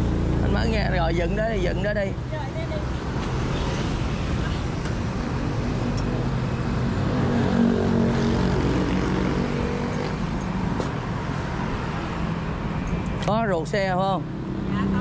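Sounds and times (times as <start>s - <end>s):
street traffic engine noise: 0.0s - 15.0s.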